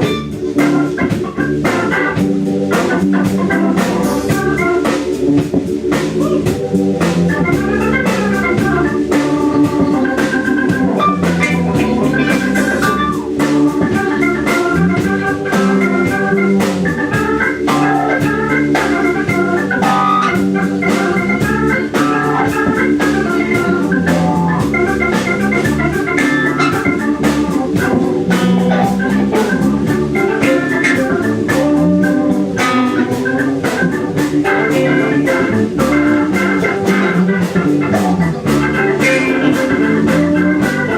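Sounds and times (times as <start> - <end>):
drum beat: 0.0 - 40.9
low bass notes: 0.0 - 40.9
organ runs and chords: 0.0 - 40.9.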